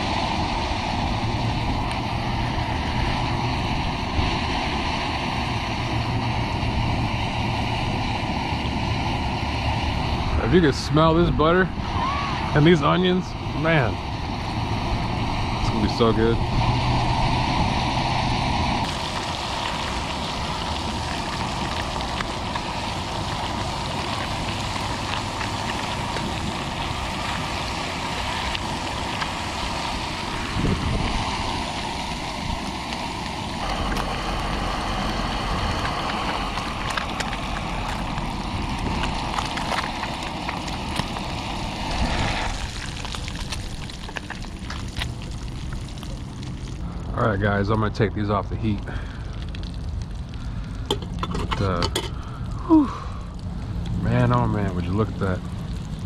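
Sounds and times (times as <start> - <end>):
fish frying sizzle: 0.0 - 56.0.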